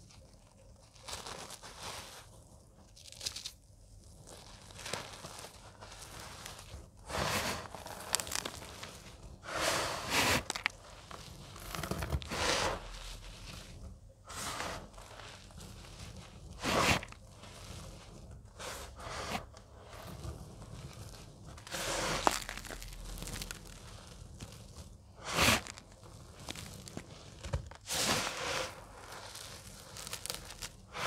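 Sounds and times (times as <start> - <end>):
hands crunching cornstarch: 0.0 - 31.0.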